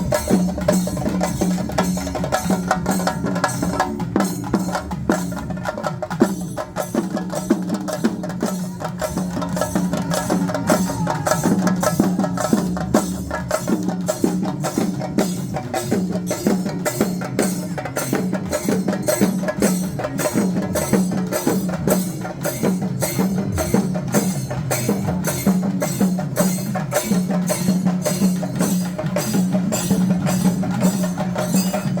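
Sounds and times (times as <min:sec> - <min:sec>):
street percussion drums: 0:00.0 - 0:32.0.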